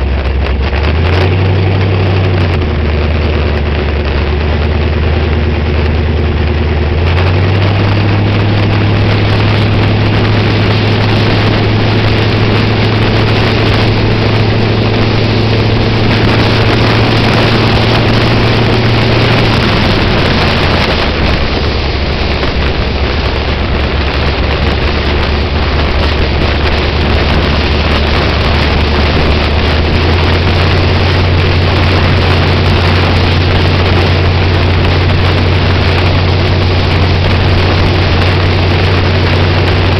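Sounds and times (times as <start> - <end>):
race car engine droning: 0.0 - 39.9
wind noise on microphone: 0.0 - 39.9.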